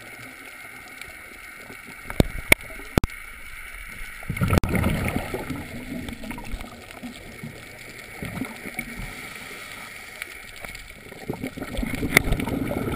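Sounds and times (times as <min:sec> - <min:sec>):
muffled underwater gurgling: 0:00.0 - 0:12.9.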